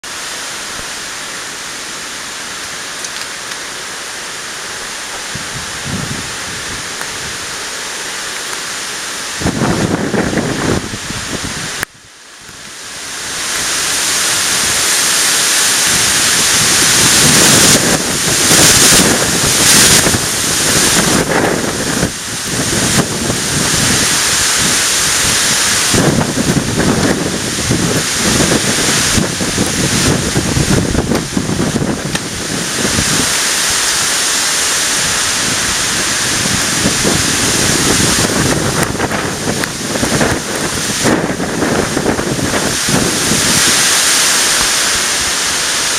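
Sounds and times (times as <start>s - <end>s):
strong wind gusting: 4.6s - 8.2s, 9.1s - 45.9s
wind buffeting microphone: 5.2s - 7.6s, 9.4s - 12.0s, 13.2s - 45.9s.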